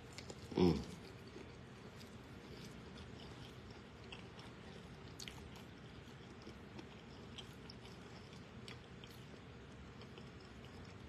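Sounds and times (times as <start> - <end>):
faint chewing: 0.0 - 11.0
low room hum: 0.0 - 11.0.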